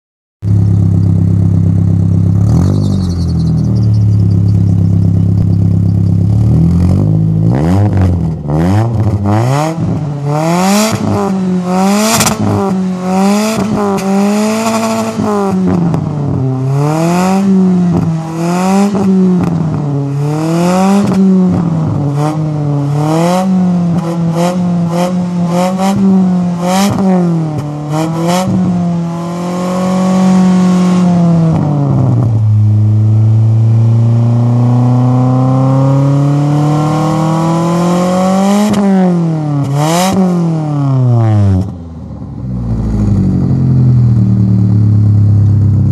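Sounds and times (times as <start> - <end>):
car engine revving through exhaust: 0.4 - 45.9.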